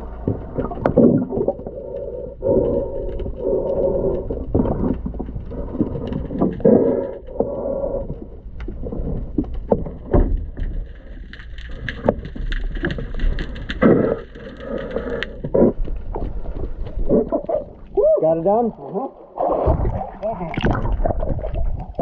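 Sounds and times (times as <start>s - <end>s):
metal clicks and knocks underwater: 0.0s - 18.0s
low underwater rumble: 0.0s - 22.0s
muffled bubbly gurgles: 0.0s - 22.0s.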